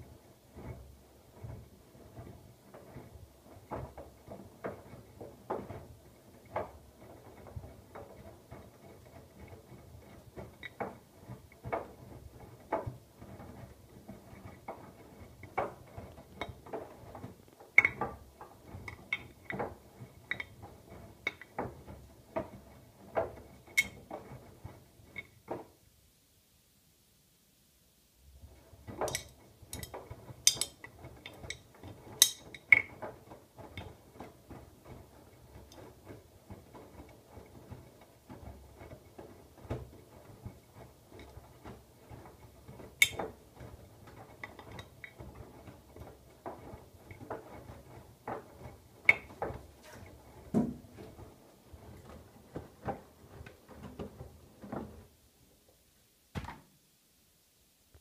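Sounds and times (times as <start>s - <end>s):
clicks and knocks of tumbling load: 0.0s - 25.9s, 28.2s - 56.8s
washing machine hum: 0.0s - 26.2s, 28.1s - 57.0s.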